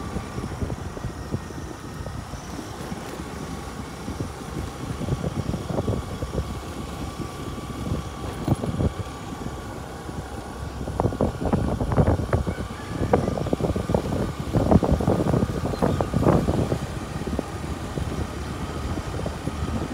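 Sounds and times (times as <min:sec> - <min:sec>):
vehicle rumbling on rough track: 0:00.0 - 0:19.9.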